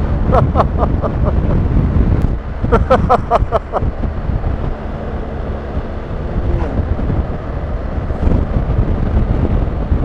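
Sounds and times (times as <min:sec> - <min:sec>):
road noise: 0:00.0 - 0:10.0
wind rushing over microphone: 0:00.0 - 0:10.0
motorcycle engine: 0:01.6 - 0:10.0.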